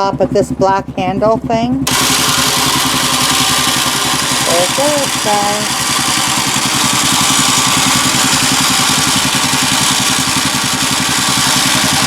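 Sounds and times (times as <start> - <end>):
engine idling with rapid pulse: 0.0 - 12.0
electric winch winding rope: 1.8 - 12.0.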